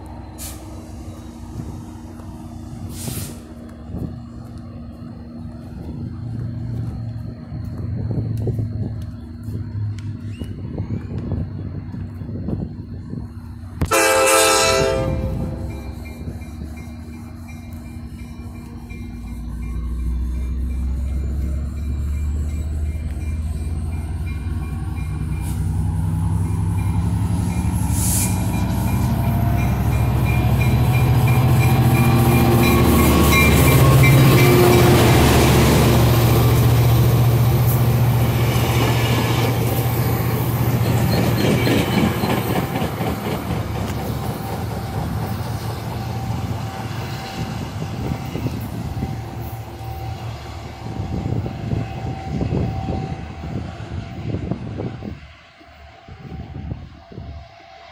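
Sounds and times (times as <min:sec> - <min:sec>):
diesel locomotive engine drone: 0:00.0 - 0:57.9
train cars rumbling on rails: 0:00.0 - 0:57.9.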